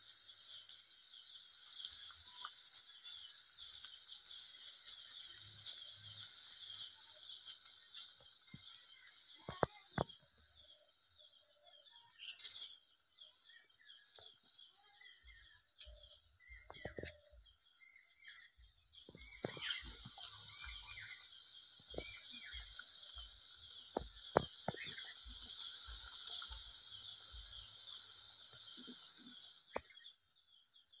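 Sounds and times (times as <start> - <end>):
food deep-frying in oil: 0.0 - 31.0
small birds chirping: 0.0 - 31.0.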